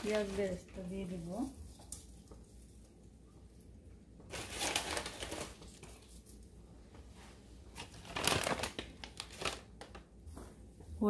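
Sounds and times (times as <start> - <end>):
fried onions crinkly rustling: 0.0 - 11.0.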